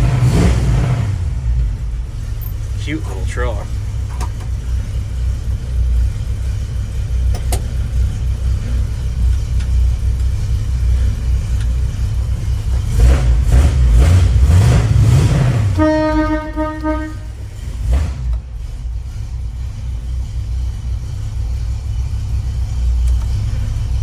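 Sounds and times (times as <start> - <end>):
pickup engine idling and revving: 0.0 - 24.0.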